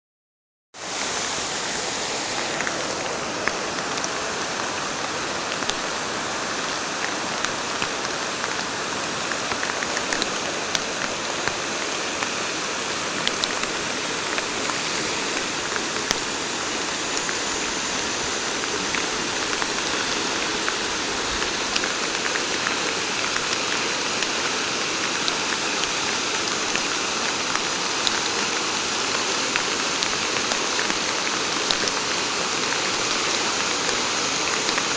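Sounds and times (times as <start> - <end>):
rushing river: 0.8 - 34.9.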